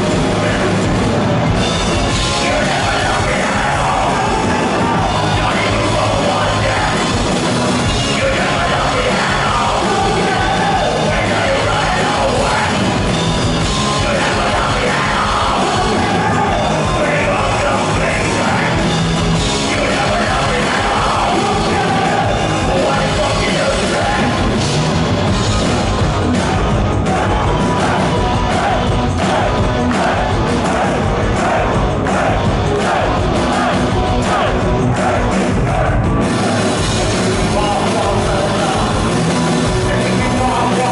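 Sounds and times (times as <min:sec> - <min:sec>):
live rock band playing: 0:00.0 - 0:40.9
shouted lead vocal: 0:02.1 - 0:24.6, 0:25.8 - 0:40.9.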